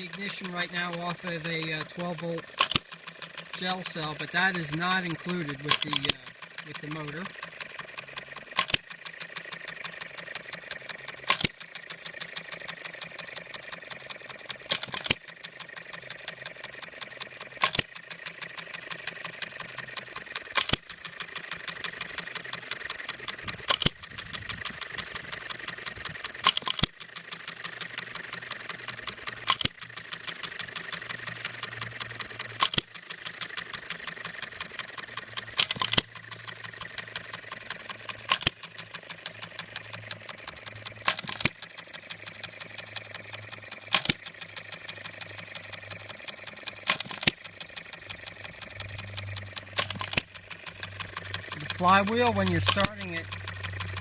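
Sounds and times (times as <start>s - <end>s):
engine firing stroke: 0.0s - 54.0s
engine mechanical ticking: 0.0s - 54.0s.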